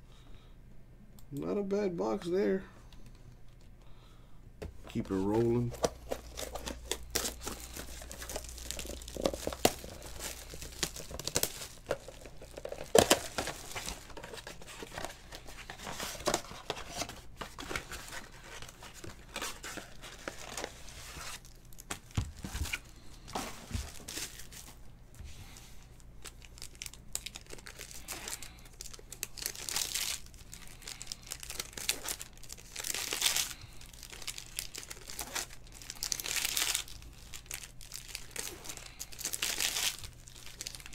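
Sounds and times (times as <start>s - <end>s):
foil wrappers crinkling and tearing: 4.9s - 24.8s, 25.4s - 40.9s.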